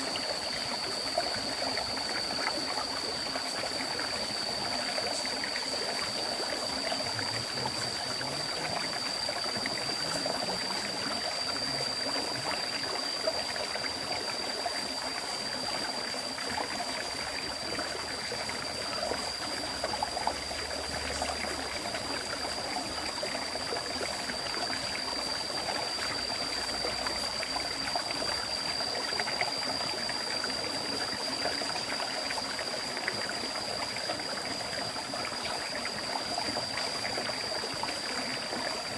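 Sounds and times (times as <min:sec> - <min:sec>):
steady high-pitched whine: 0:00.0 - 0:38.9
stream water rushing and bubbling: 0:00.0 - 0:38.9.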